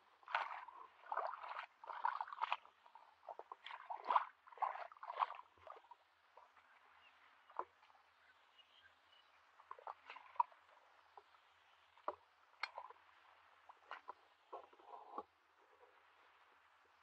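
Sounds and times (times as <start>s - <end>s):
bare feet sloshing through muddy water: 0.0s - 17.0s.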